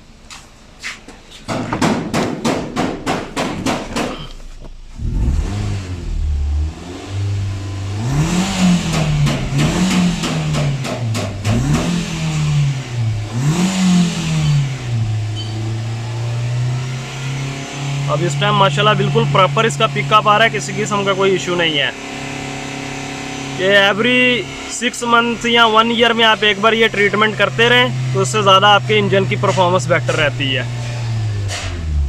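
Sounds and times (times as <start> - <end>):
car engine revving: 3.8 - 32.0.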